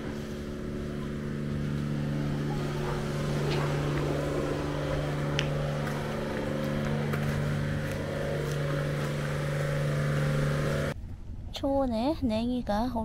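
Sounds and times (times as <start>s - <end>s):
engine running steadily: 0.0s - 11.4s.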